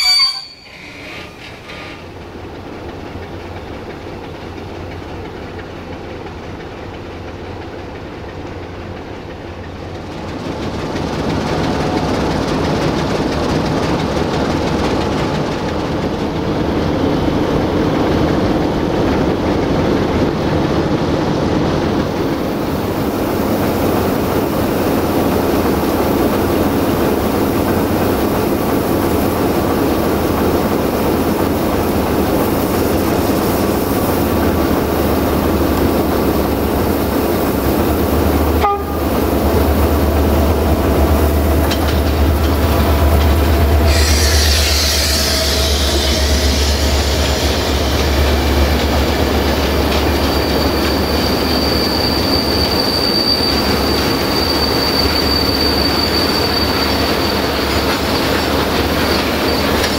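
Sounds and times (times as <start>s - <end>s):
train wheels clattering over rails: 0.8s - 59.9s.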